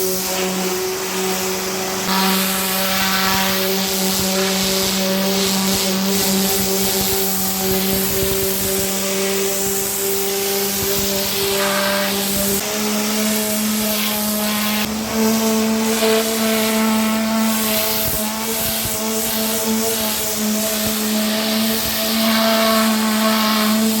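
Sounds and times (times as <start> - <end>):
hiss of high-pressure spray: 0.0 - 24.0
pressure washer machine hum: 0.0 - 24.0.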